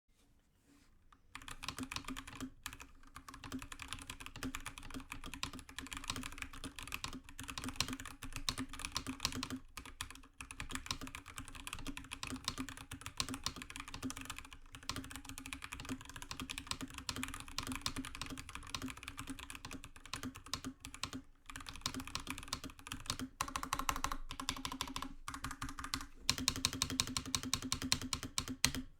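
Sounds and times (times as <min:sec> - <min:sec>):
mechanical keyboard typing: 0:01.4 - 0:28.9.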